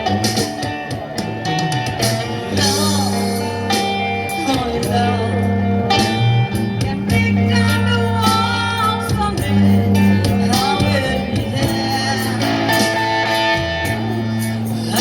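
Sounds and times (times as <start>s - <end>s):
guitar accompaniment: 0.0s - 15.0s
person singing: 2.3s - 15.0s.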